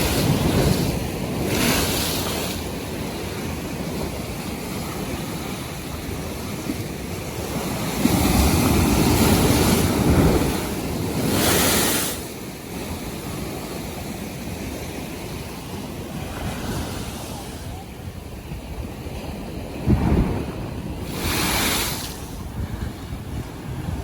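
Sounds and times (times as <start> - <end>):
waves washing and breaking: 0.0 - 24.0
wind rumbling on microphone: 0.0 - 24.0.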